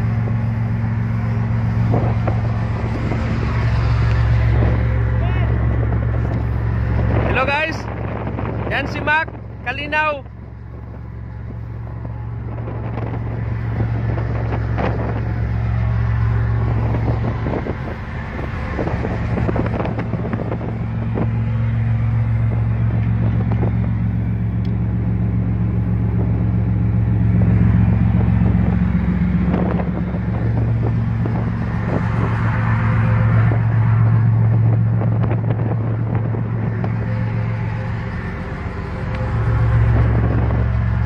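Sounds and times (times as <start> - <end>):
ship engine exhaust drone: 0.0 - 41.0.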